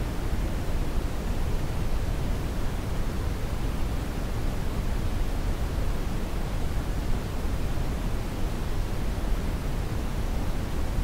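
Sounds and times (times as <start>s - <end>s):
steady white noise hiss: 0.0s - 11.0s.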